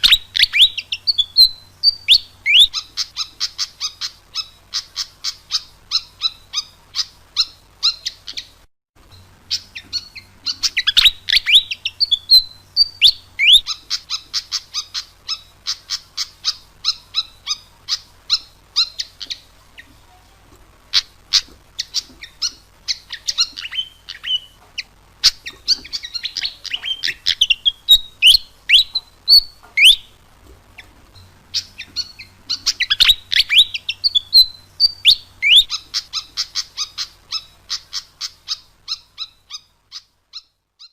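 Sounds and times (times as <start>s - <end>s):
whistled bird notes: 0.0s - 8.6s, 9.5s - 19.9s, 21.0s - 24.6s, 25.2s - 30.2s, 31.5s - 40.9s
bird chirping: 0.0s - 20.2s, 20.9s - 40.9s.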